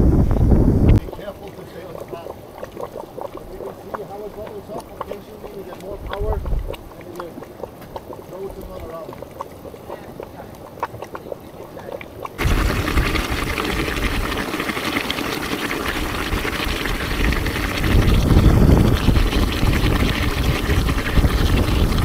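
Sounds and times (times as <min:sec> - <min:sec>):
hot water and steam rushing: 0:01.0 - 0:22.0.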